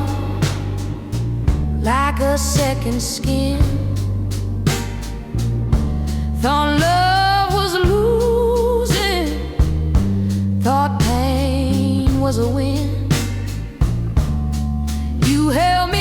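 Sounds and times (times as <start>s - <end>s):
slow blues music: 0.0s - 16.0s.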